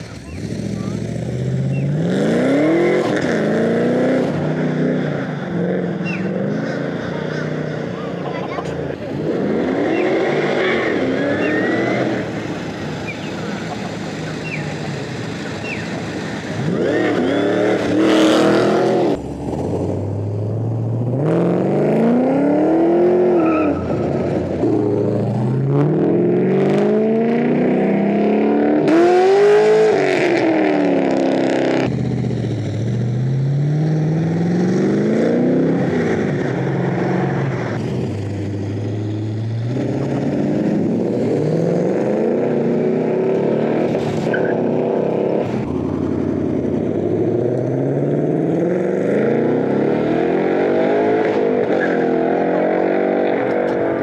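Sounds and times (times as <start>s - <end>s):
cars accelerating and revving: 0.0s - 54.0s.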